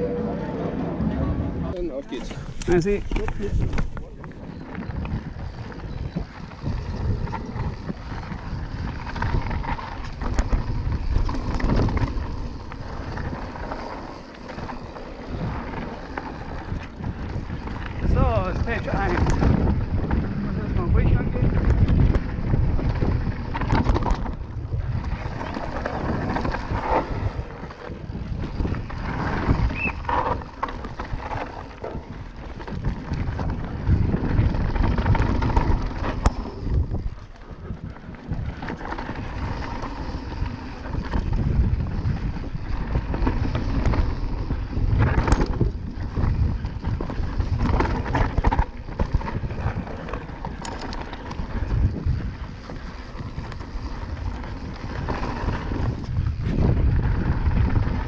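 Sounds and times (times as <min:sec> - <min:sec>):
wind buffeting microphone: 0:00.0 - 0:58.0
bike rattling: 0:01.6 - 0:58.0.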